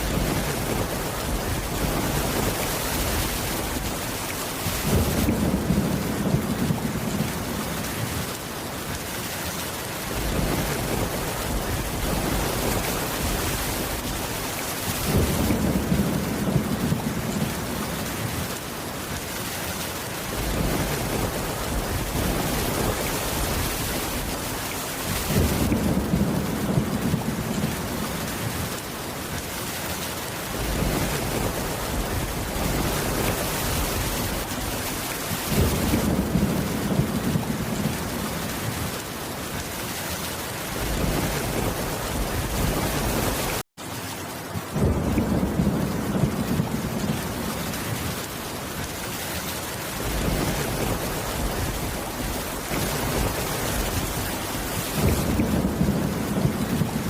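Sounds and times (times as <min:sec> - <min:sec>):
thunder rumbling: 0:00.0 - 0:08.4, 0:10.0 - 0:19.2, 0:20.2 - 0:29.4, 0:30.4 - 0:39.6, 0:40.6 - 0:43.6, 0:44.6 - 0:49.2, 0:49.8 - 0:57.0
heavy rain: 0:00.0 - 0:57.0.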